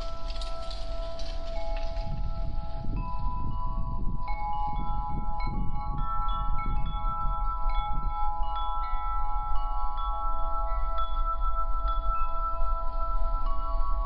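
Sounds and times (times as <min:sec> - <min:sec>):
metal tube wind chime ringing: 0:00.0 - 0:14.0.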